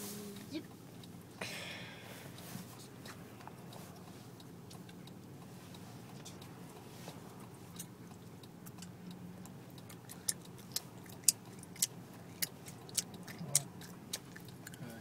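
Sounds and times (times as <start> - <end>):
car idling hum: 0.0 - 15.0
car turn signal clicking: 2.3 - 14.8.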